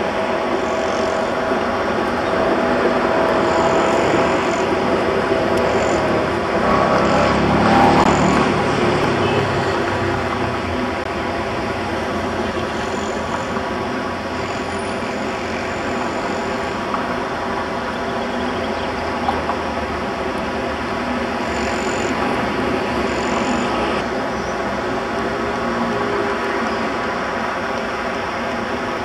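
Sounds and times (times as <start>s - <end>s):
tram rumbling: 0.0s - 29.0s.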